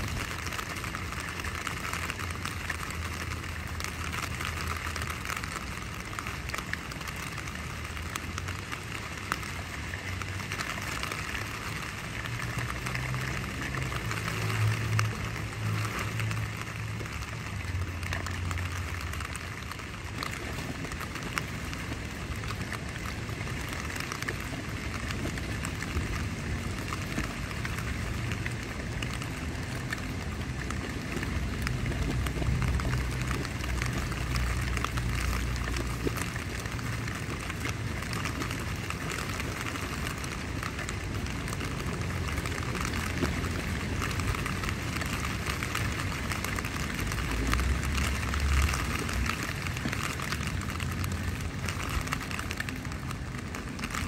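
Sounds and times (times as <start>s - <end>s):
rain pattering on tent fabric: 0.0s - 54.0s.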